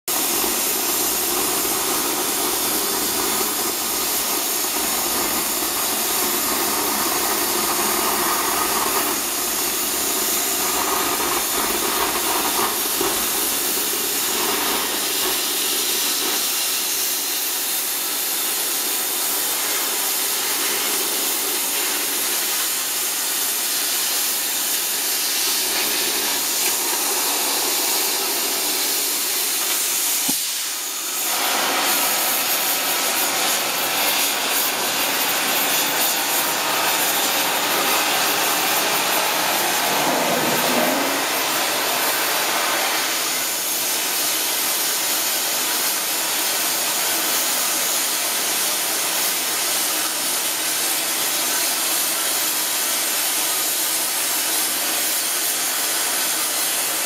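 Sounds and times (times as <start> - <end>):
cutting torch hissing loudly: 0.1 - 57.0.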